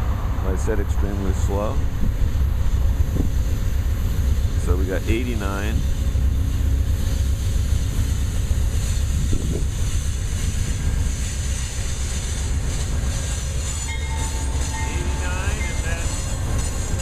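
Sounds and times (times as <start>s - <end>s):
train cars rumbling past: 0.0s - 17.0s.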